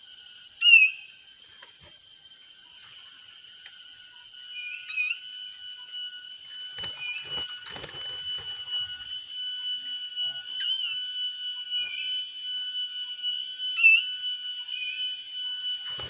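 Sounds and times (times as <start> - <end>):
high whistle-like tone: 0.0 - 16.0
rising bird chirps: 0.0 - 16.0.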